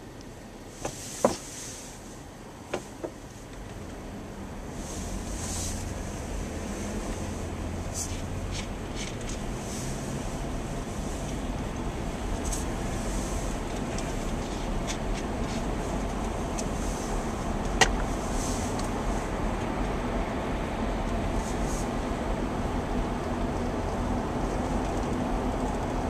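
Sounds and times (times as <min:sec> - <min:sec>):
car interior road noise: 0:00.0 - 0:26.0.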